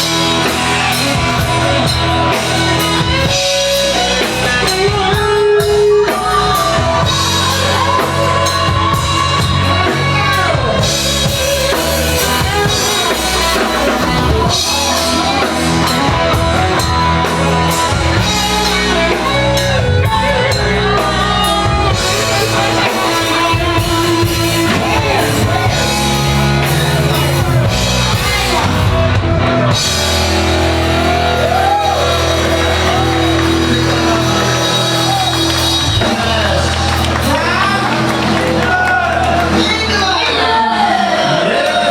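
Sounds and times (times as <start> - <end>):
drum kit: 0.0 - 41.8
guitar: 0.0 - 41.9
live rock band: 0.0 - 41.9
person singing: 0.0 - 41.9.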